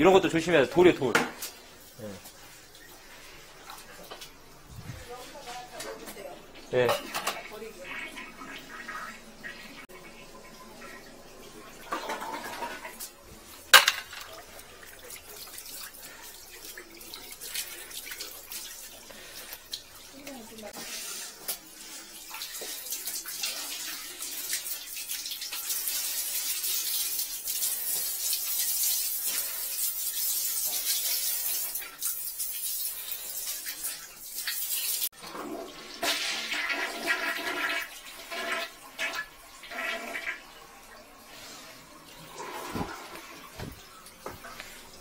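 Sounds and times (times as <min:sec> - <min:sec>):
toilet flushing: 0:00.0 - 0:45.0.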